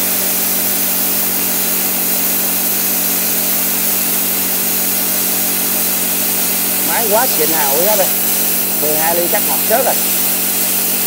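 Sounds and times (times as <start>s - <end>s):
plasma cutter hissing: 0.0s - 11.0s.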